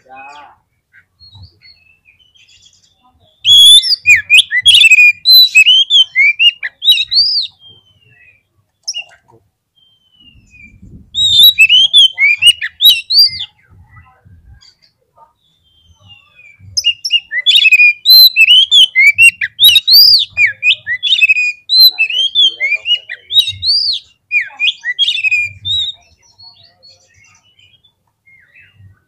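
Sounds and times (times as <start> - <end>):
bird singing whistled phrases: 1.2 - 9.2, 9.8 - 14.7, 15.6 - 29.0.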